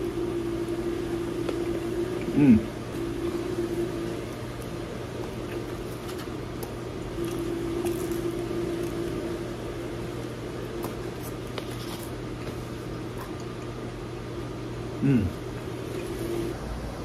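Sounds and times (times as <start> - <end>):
small machine humming: 0.0 - 17.0.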